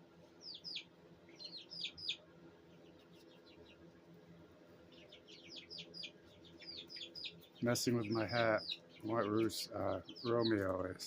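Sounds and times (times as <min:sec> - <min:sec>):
chicks peeping: 0:00.1 - 0:11.0.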